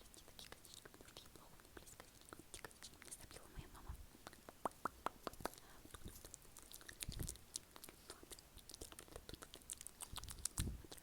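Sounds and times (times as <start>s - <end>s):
wet mouth clicks and smacks: 0.2s - 3.4s, 4.2s - 11.0s.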